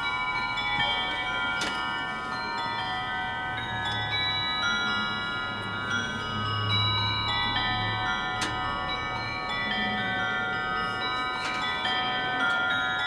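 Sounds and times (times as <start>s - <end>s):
clockwork chiming tune: 0.0s - 13.0s.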